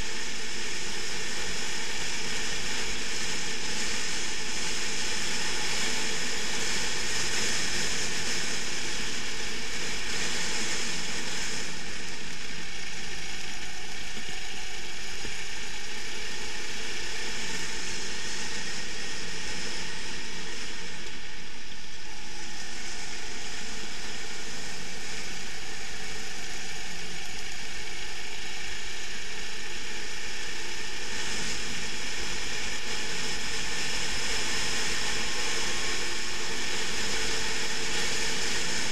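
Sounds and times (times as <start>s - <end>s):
kart engine running: 0.0s - 38.9s.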